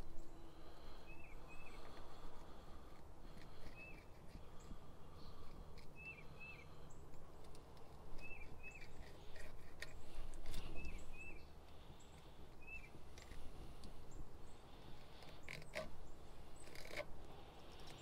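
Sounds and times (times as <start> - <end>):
bird chirping: 0.0 - 2.7, 3.4 - 17.0.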